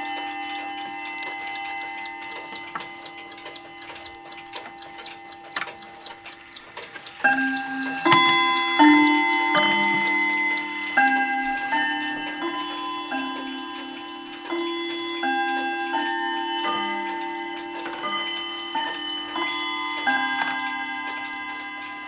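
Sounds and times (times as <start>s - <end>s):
clock chime rods ringing: 0.0s - 22.0s
mantel clock ticking: 0.0s - 22.0s.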